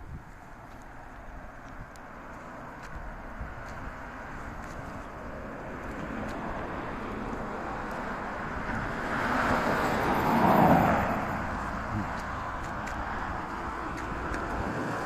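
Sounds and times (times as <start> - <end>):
vehicle passing close by: 2.2 - 15.0.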